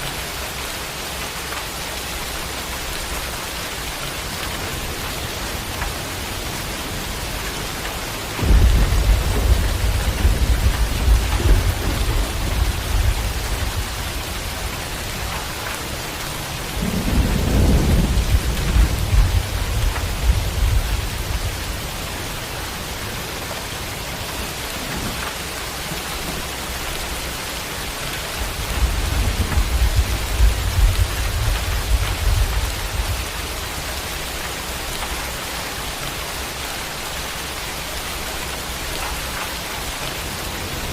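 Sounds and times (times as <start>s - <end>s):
steady rain falling: 0.0s - 40.9s
thunder rumbling: 2.4s - 40.9s.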